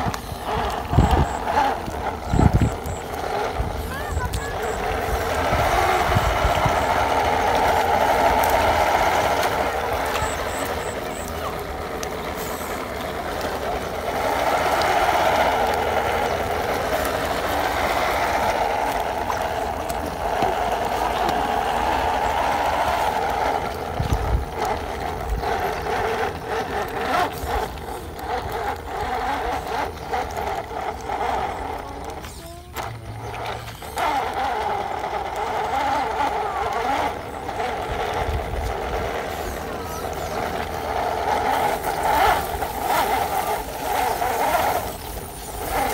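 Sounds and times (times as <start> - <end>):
rc car electric motor whining: 0.0 - 45.9
water splashing around wheels: 0.0 - 45.9.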